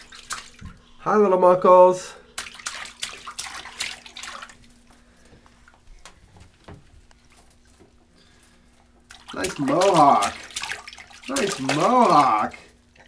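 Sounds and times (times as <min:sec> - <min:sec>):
water dripping: 0:00.0 - 0:01.0, 0:02.3 - 0:13.0
bath water splashing: 0:00.0 - 0:01.1, 0:01.9 - 0:13.0.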